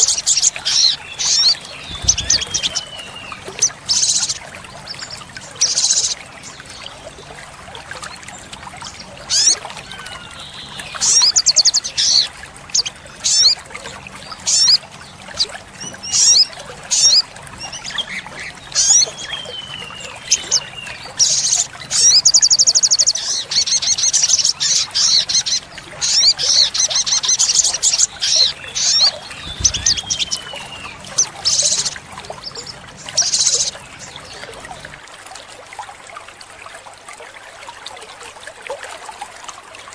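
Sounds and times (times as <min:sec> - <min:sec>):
bird singing chirps and trills: 0:00.0 - 0:35.0.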